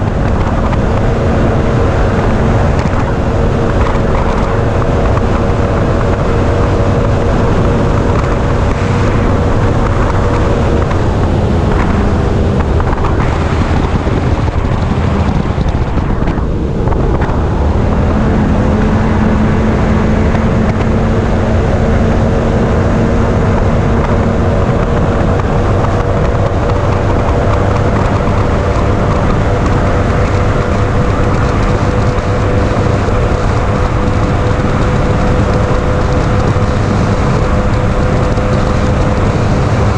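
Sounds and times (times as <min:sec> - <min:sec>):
outboard motor running: 0:00.0 - 0:39.9
wind on microphone: 0:00.0 - 0:39.9.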